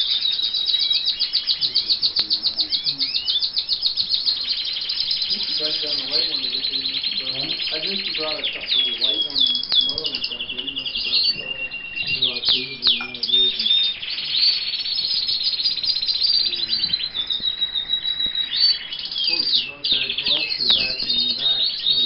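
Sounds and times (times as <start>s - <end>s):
canaries singing with rapid trills: 0.0s - 22.0s.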